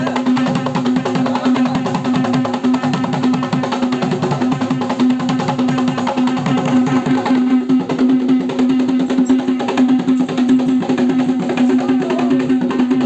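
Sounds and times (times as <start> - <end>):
fast rhythmic strokes: 0.0 - 13.0.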